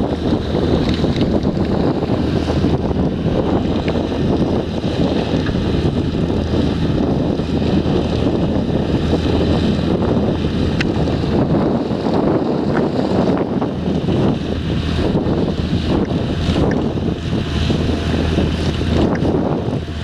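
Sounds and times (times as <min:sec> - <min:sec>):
harvesting machinery engine hum: 0:00.0 - 0:20.0
wind buffeting microphone: 0:00.0 - 0:20.0.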